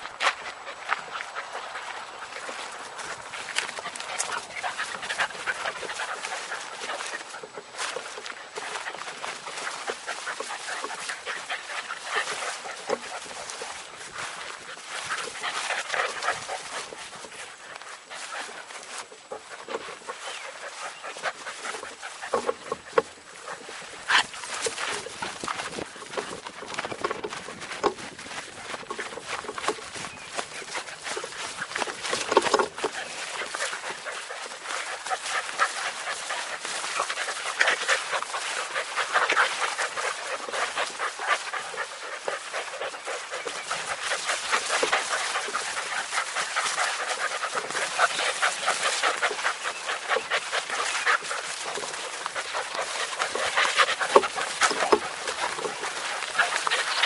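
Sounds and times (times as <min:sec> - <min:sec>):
long grass rustling: 0:00.0 - 0:57.0
puppies panting: 0:00.0 - 0:57.0
puppies whimpering: 0:00.0 - 0:57.0.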